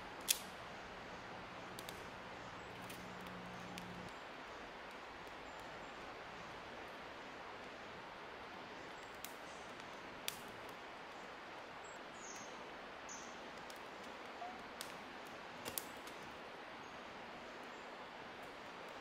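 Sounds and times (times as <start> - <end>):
wood fire crackling and popping: 0.0 - 11.8, 13.4 - 16.5, 18.3 - 19.0
steady outdoor hiss: 0.0 - 19.0.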